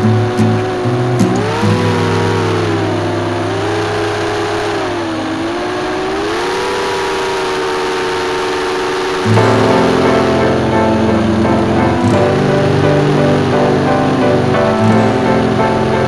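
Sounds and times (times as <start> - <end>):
motor drone: 1.4 - 16.0.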